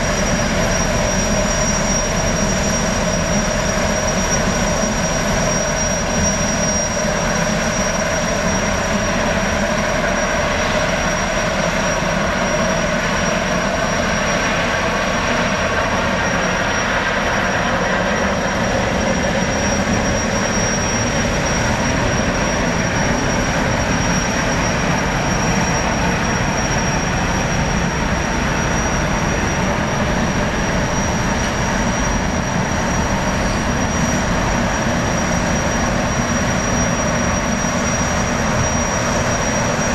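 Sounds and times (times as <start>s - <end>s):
gas turbine whine: 0.0s - 39.9s.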